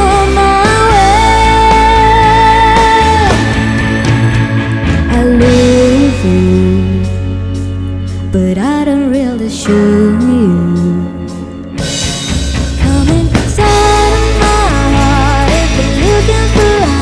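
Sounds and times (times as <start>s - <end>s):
person singing with vibrato: 0.0s - 12.1s, 12.8s - 17.0s
live rock band playing: 0.0s - 17.0s.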